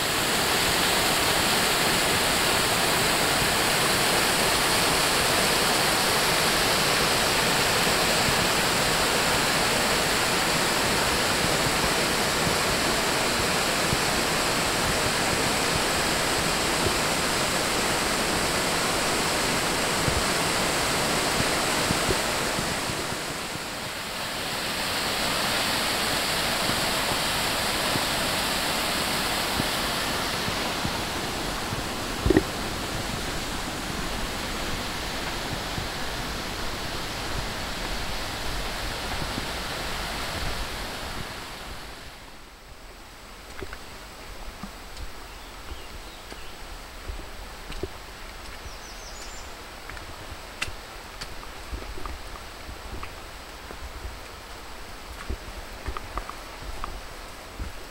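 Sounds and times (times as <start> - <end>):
whitewater rushing: 0.0 - 57.9.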